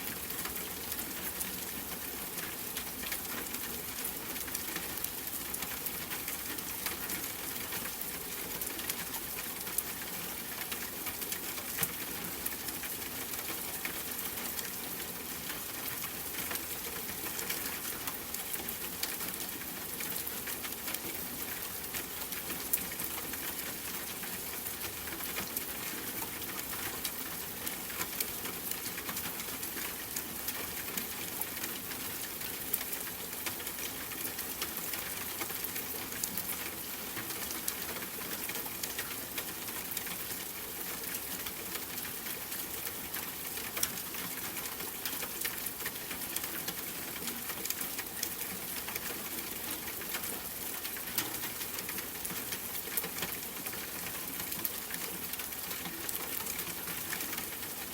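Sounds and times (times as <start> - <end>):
rain patter: 0.0 - 57.9.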